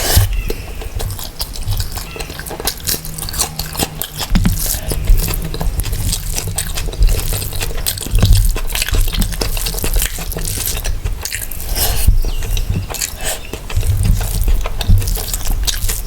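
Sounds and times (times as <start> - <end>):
mouth clicks: 0.0 - 16.0
wet chewing and biting: 0.0 - 16.0.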